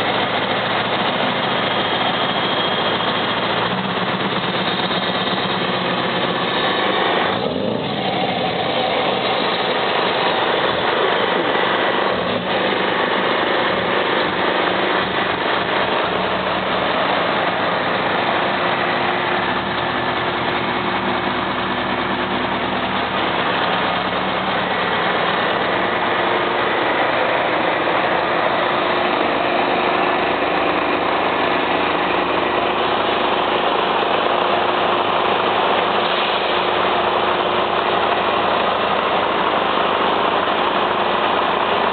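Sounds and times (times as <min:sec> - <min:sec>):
truck diesel engine running: 0:00.0 - 0:41.9.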